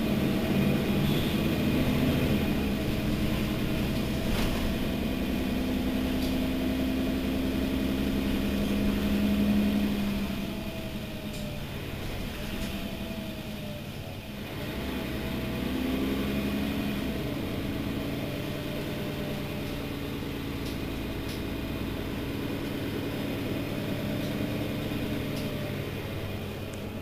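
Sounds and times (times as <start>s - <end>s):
bus diesel engine idling: 0.0s - 27.0s.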